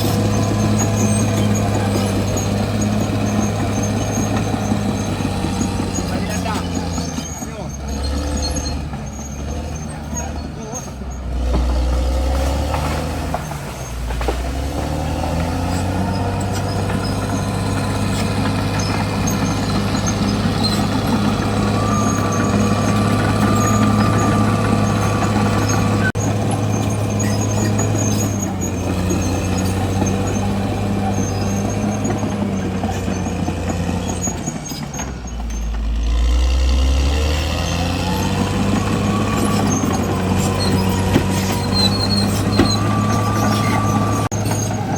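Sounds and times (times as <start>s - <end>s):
bulldozer diesel engine under load: 0.0s - 44.9s.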